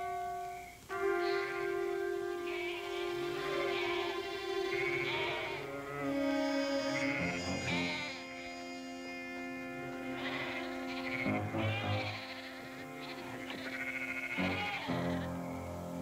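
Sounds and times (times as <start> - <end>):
sheep bleating: 0.0 - 15.7
dramatic score music: 0.1 - 13.7.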